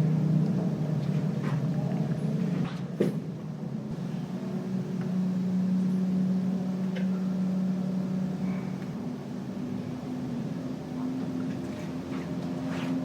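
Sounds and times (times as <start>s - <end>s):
lift car humming: 0.0s - 13.0s.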